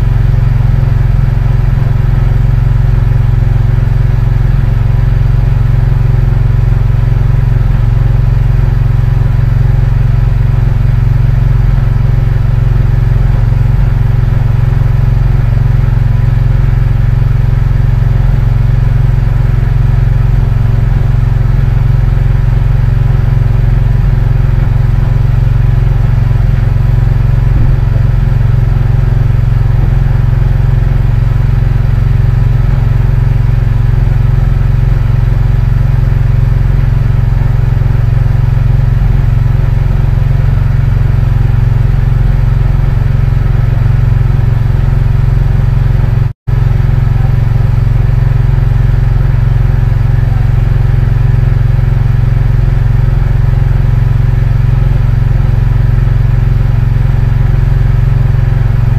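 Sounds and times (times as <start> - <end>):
boat engine running loudly: 0.0 - 58.9.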